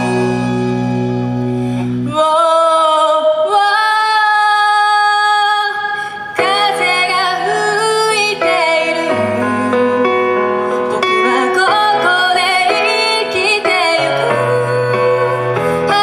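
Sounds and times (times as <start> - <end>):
pop-rock band playing: 0.0 - 3.7, 5.7 - 16.0.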